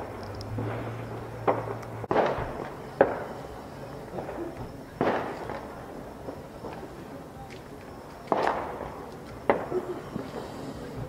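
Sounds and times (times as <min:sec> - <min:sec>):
firework pops and crackles: 0:00.0 - 0:11.0
fireworks bangs: 0:00.0 - 0:11.0.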